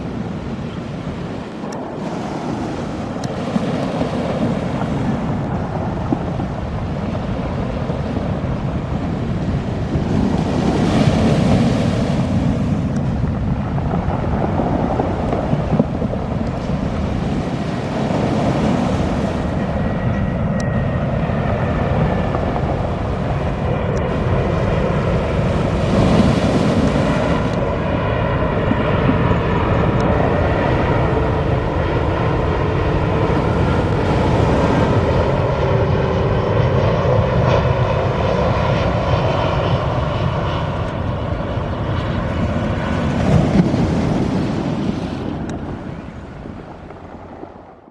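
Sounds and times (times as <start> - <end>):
jet engines rumbling: 0.0 - 47.9.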